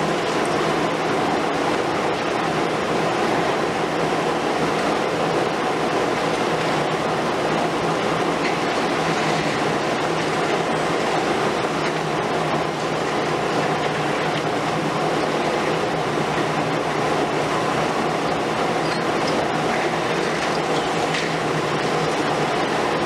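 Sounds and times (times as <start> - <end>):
excavator diesel hum: 0.0 - 23.0.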